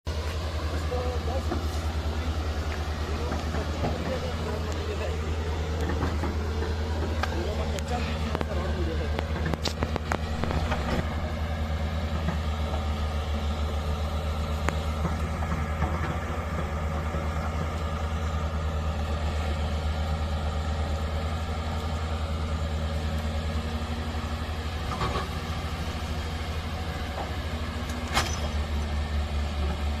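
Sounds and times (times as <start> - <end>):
excavator engine humming: 0.1 - 30.0.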